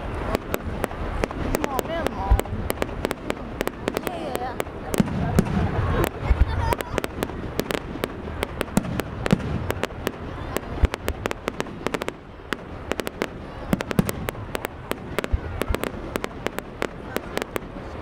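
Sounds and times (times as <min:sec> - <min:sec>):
fireworks bangs and crackles: 0:00.0 - 0:18.0
low rumble of bursts: 0:00.0 - 0:18.0.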